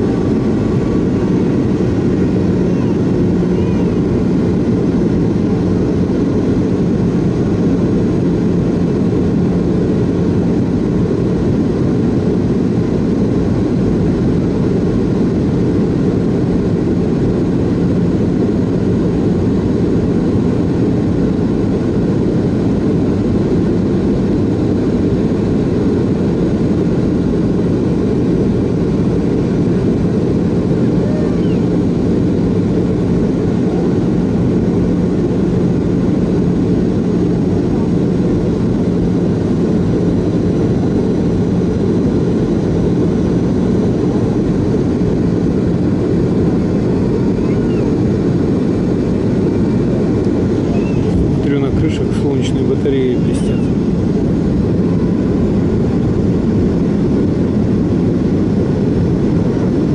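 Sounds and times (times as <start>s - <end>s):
jet engine cabin noise: 0.0s - 59.9s.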